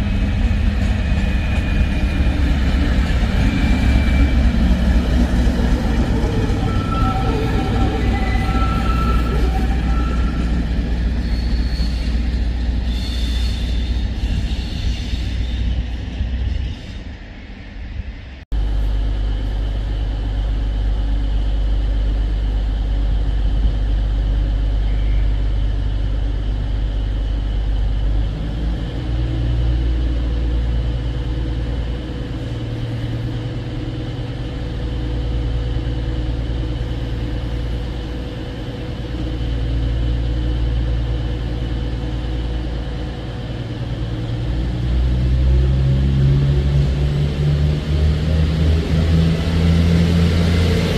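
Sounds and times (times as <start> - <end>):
train diesel engines idling: 0.0 - 17.1, 18.6 - 50.9.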